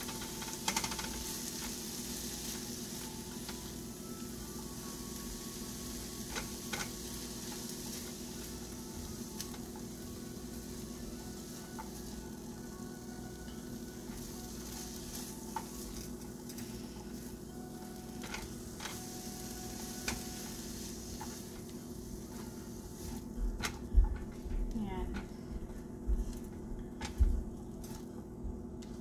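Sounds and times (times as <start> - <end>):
vegetables sizzling in a frying pan: 0.0 - 24.1.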